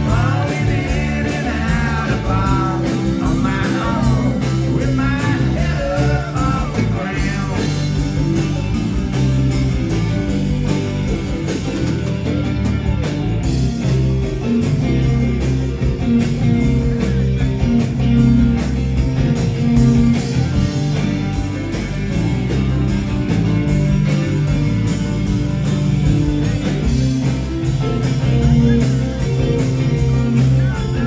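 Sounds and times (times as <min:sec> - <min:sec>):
rock band playing live: 0:00.0 - 0:31.0.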